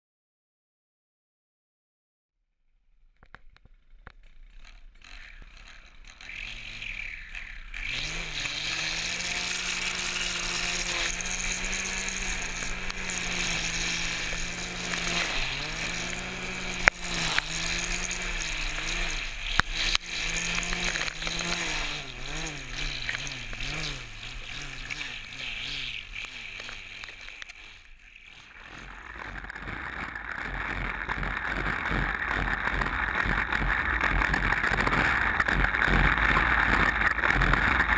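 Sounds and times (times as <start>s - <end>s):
string trimmer cutting grass: 4.1s - 37.9s
debris ticks: 7.3s - 37.9s.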